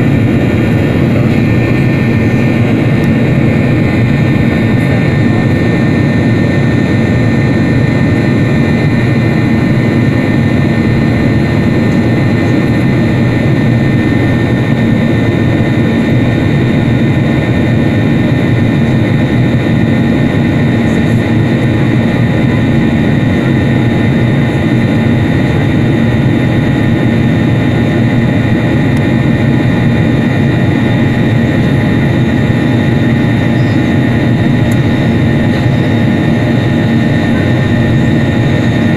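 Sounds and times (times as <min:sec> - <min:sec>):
jet cabin engine noise: 0:00.0 - 0:38.9.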